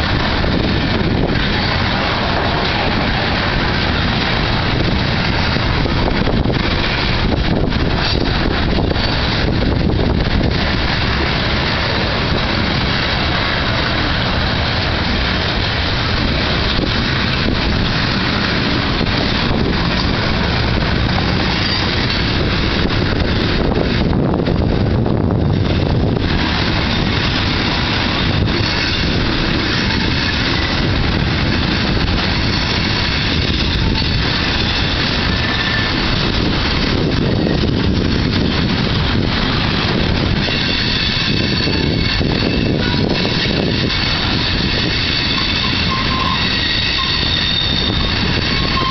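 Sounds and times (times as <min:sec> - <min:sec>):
steel wheels rumbling on rails: 0:00.0 - 0:48.9.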